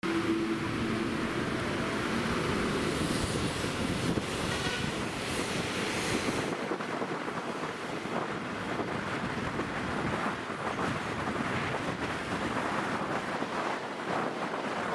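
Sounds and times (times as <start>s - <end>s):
wind rushing over microphone: 0.0s - 14.9s.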